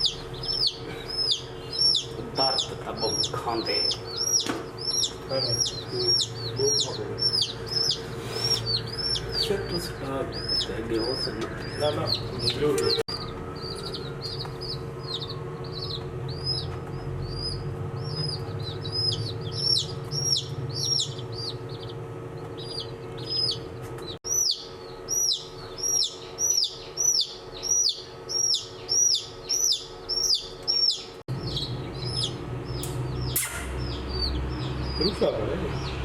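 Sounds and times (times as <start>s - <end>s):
low hum: 0.0s - 35.0s
baby chicks peeping: 0.0s - 36.0s.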